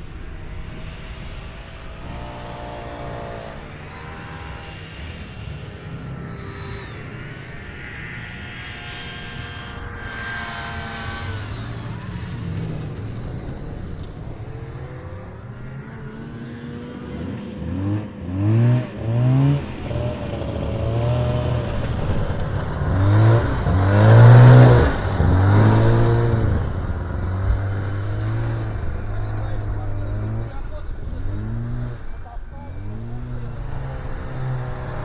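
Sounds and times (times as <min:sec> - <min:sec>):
snowmobile engines revving: 0:00.0 - 0:35.0.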